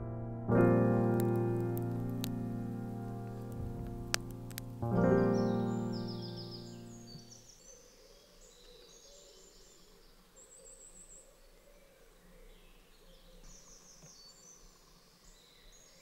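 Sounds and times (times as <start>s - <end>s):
faint birdsong: 2.9s - 16.0s.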